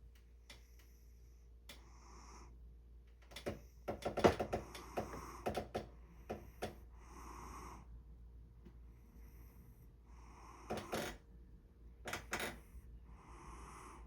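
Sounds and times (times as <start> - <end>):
noisy snoring breath: 0.5 - 2.7, 3.3 - 8.2, 8.8 - 11.3, 12.0 - 14.0.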